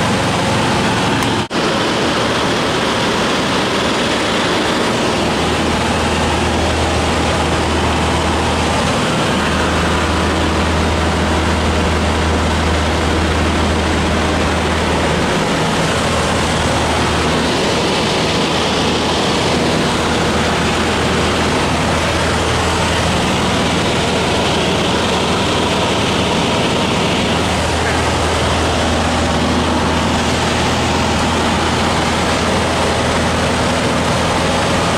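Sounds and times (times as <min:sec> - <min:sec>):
aircraft engine and propeller drone: 0:00.0 - 0:34.9
rushing air: 0:00.0 - 0:34.9.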